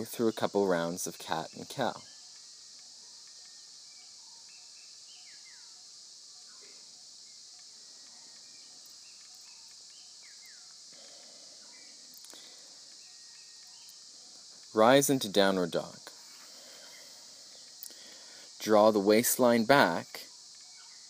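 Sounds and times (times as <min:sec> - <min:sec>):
high-pitched insect drone: 0:00.0 - 0:21.0
faint bird calls: 0:01.4 - 0:18.8.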